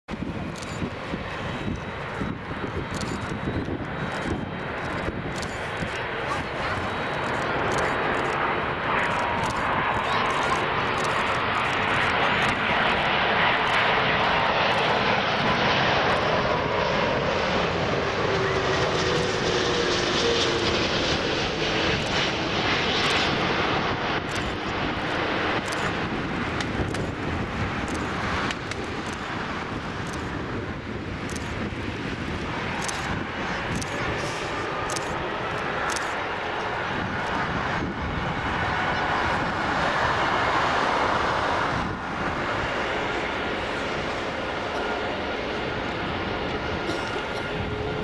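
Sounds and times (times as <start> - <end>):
jet airliner passing low: 0.1 - 48.0.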